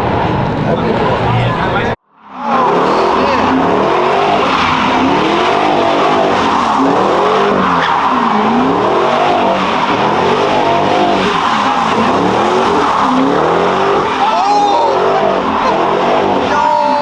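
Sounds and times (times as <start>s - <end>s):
car engine revving: 0.0s - 17.0s
tyres sliding: 2.6s - 16.7s.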